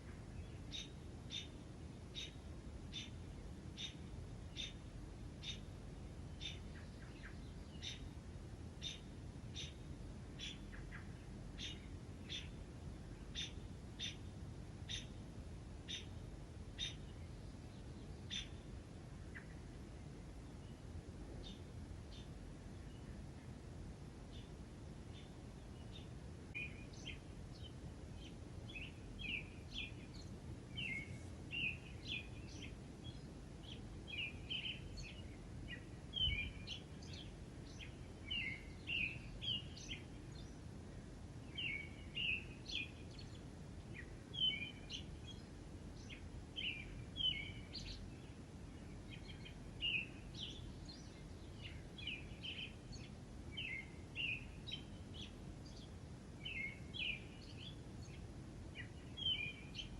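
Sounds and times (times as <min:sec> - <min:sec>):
low background hiss: 0:00.0 - 0:59.9
birds chirping: 0:03.8 - 0:08.2, 0:08.8 - 0:15.2, 0:16.8 - 0:23.6, 0:24.3 - 0:40.6, 0:41.4 - 0:59.9.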